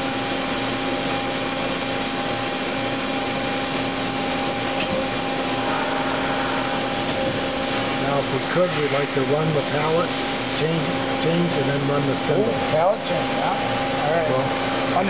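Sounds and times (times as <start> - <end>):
machining center humming and whining: 0.0 - 15.0.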